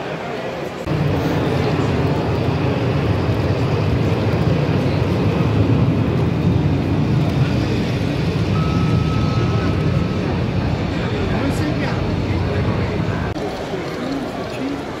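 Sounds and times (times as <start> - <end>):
model train rumbling on track: 0.9 - 15.0.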